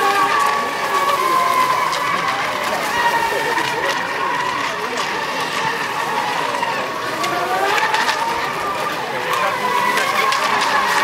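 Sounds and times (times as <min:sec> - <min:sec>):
rc boat motors whining: 0:00.0 - 0:11.0.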